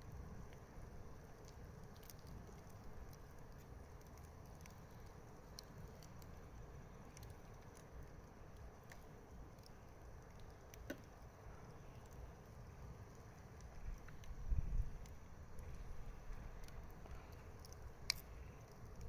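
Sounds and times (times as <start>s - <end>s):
wood fire crackling faintly: 0.0s - 19.0s.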